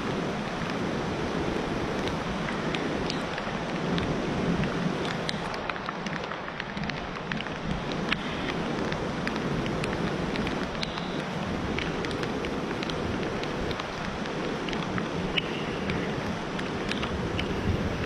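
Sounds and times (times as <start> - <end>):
raindrops ticking close by: 0.0 - 18.0
steady rain: 0.0 - 18.0
wind: 0.0 - 18.0.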